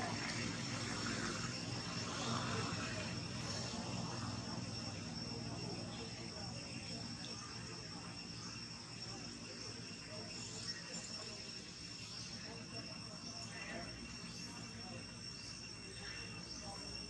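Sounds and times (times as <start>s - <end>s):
faint outdoor background: 0.0s - 17.0s
insect chorus drone: 0.0s - 17.0s.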